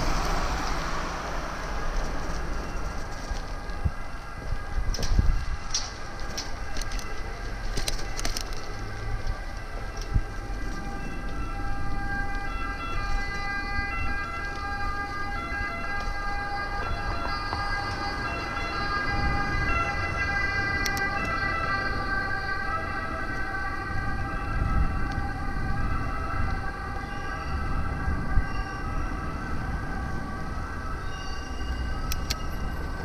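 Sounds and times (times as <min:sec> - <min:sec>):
city traffic rumble: 0:00.0 - 0:33.0
emergency vehicle siren: 0:00.0 - 0:33.0.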